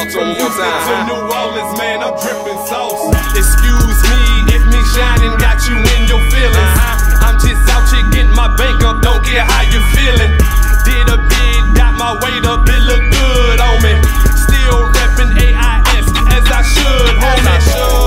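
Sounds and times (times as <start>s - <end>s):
heavy bass line: 0.0s - 18.0s
hip hop music: 0.0s - 18.0s.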